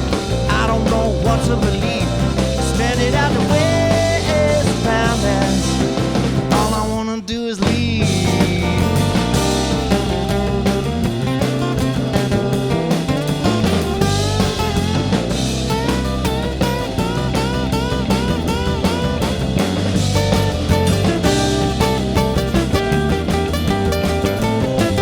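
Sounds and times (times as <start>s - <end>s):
bent guitar lead notes: 0.0s - 7.1s, 7.7s - 25.0s
rock band playing: 0.0s - 25.0s.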